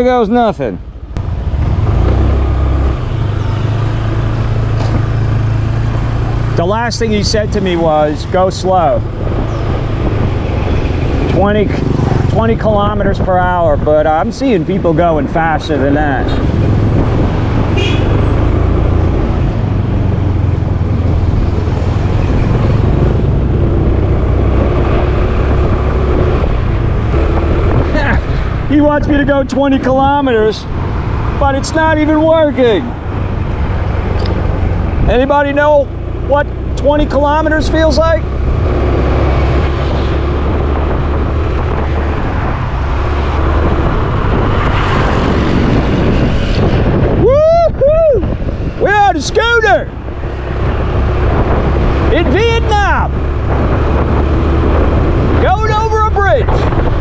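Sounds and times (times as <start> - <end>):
road noise: 0.0 - 57.0
traffic vehicles: 0.0 - 57.0
wind rushing over microphone: 0.8 - 57.0.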